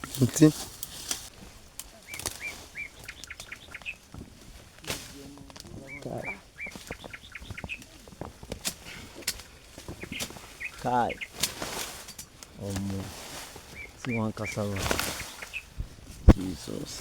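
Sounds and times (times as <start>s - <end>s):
clicks and rustles: 0.0s - 17.0s
bird chirping: 1.8s - 17.0s.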